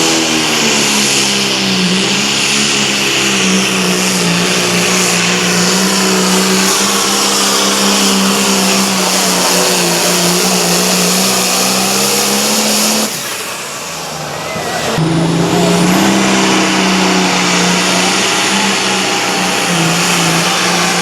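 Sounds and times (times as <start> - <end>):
tractor engine at full throttle: 0.0 - 21.0.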